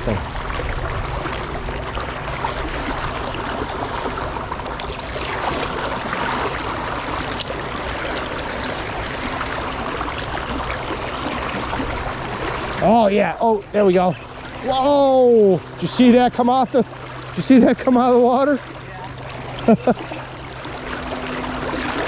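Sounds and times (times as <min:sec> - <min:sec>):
river current rippling: 0:00.0 - 0:22.0.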